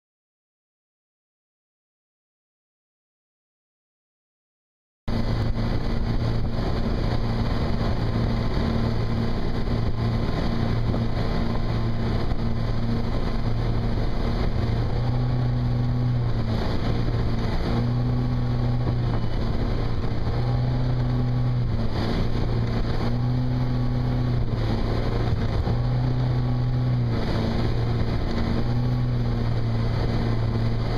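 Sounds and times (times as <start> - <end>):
boat engine running: 5.1 - 30.9
rushing wake water: 5.1 - 30.9
wind on microphone: 5.1 - 30.9.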